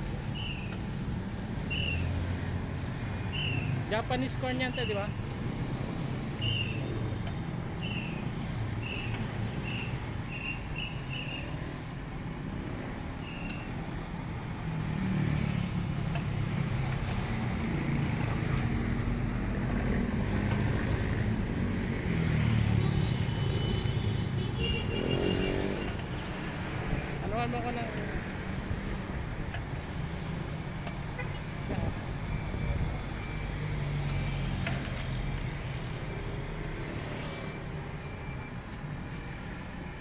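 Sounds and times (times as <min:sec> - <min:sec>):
motor vehicle engines rumbling: 0:00.0 - 0:40.0.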